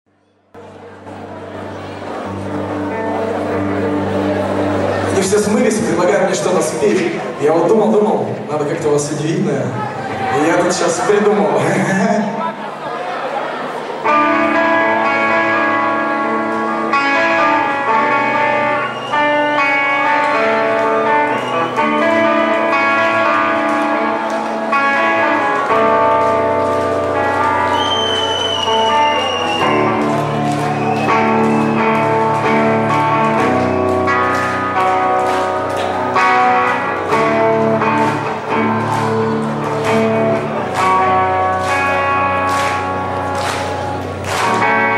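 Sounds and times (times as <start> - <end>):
guitar chords: 0.3 - 12.4, 13.8 - 44.9.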